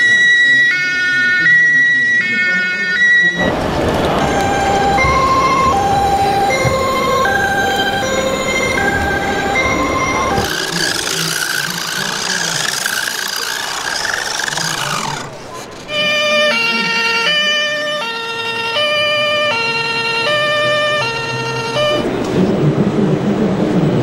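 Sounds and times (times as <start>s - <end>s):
two-tone fire engine siren: 0.0s - 22.2s.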